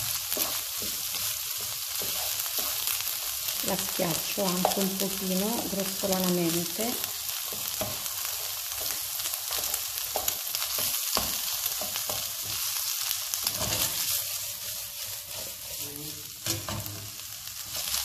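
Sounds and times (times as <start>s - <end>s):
wooden spoon scraping a pan: 0.0s - 6.1s, 6.9s - 18.0s
food sizzling in oil: 0.0s - 18.0s.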